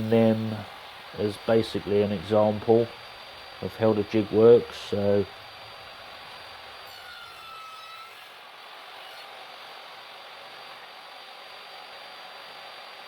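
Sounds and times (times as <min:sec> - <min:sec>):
faint whine: 0:00.0 - 0:13.0.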